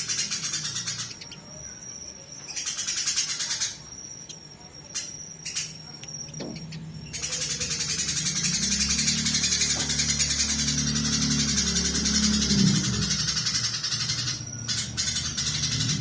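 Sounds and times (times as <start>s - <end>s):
rapid chattering bird calls: 0.0s - 16.0s
sharp bird chips: 0.0s - 16.0s.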